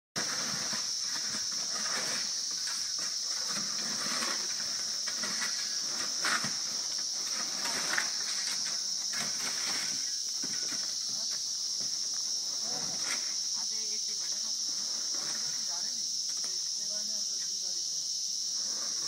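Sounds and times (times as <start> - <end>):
high-pitched insect drone: 0.2 - 19.0.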